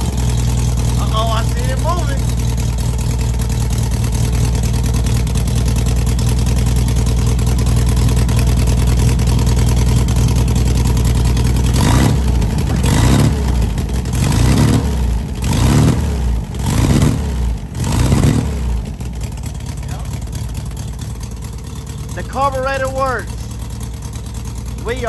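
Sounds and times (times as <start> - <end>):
car engine idling: 0.0 - 25.0
engine revving: 0.0 - 25.0.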